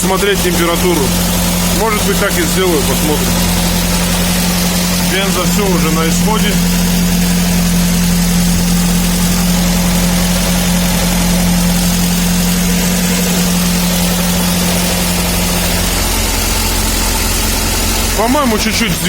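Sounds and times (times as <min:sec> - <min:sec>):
petrol engine idling: 0:00.0 - 0:19.0
steady hum: 0:00.0 - 0:19.0.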